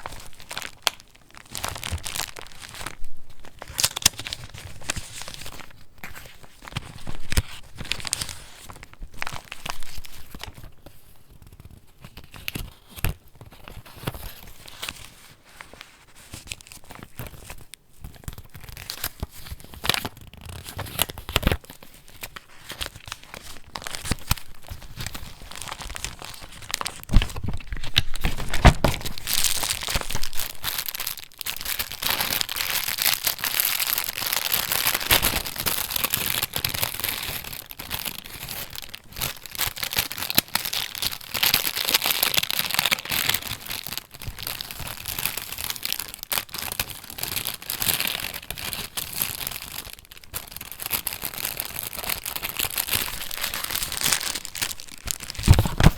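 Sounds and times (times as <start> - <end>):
paper pages rustling: 0.0 - 43.6, 46.7 - 55.9.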